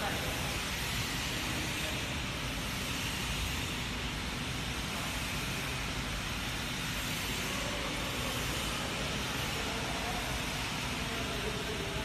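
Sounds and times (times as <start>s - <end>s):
welding machine hissing and rumbling: 0.0s - 12.0s.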